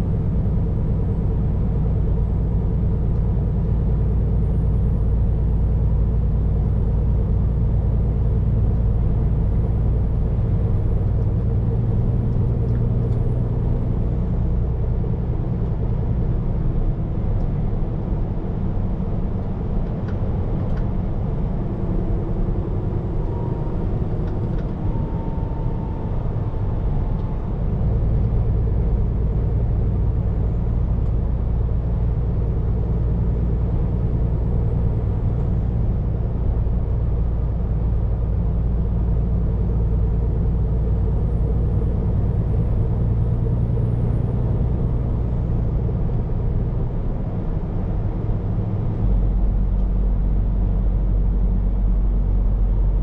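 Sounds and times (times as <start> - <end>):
truck engine and road drone: 0.0 - 53.0.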